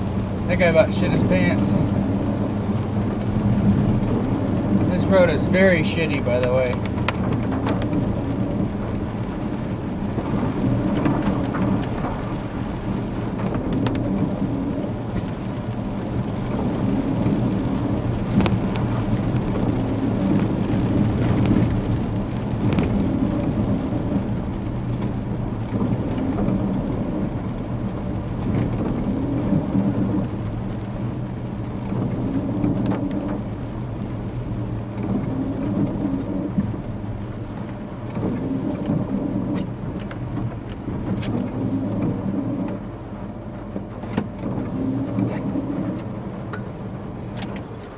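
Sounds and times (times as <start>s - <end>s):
road noise: 0.0s - 47.9s.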